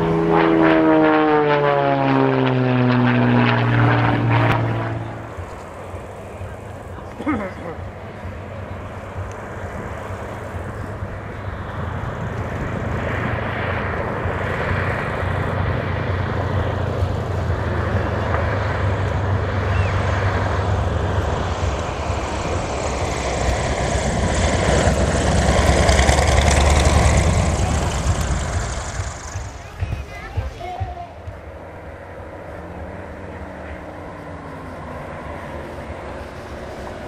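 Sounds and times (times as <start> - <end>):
propeller plane engines droning: 0.0 - 37.0.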